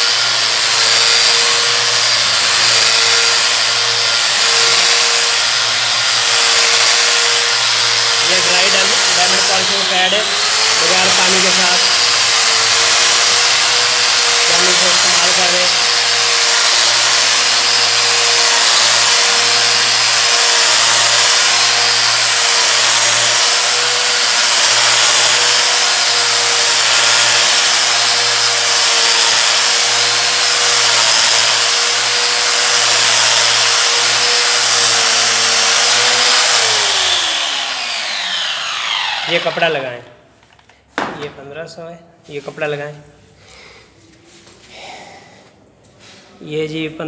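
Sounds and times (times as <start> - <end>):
polishing pad on stone: 0.0 - 39.7
angle grinder whine: 0.0 - 40.1.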